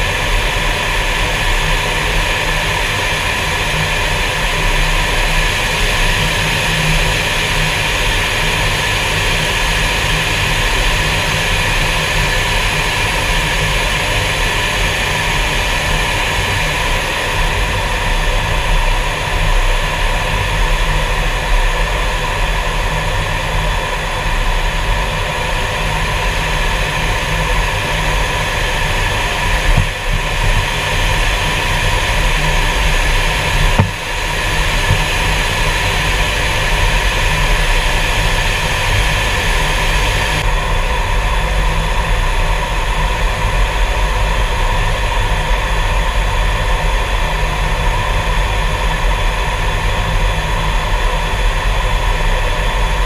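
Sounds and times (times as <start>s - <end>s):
jet engine rumble and whine: 0.0s - 53.0s.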